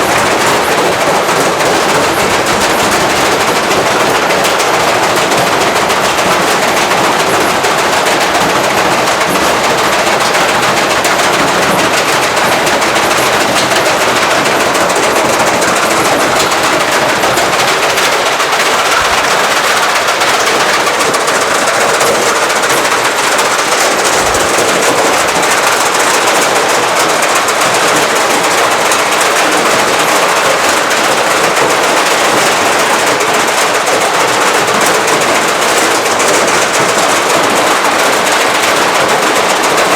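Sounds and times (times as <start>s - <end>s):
washing machine drum banging: 0.0s - 39.9s.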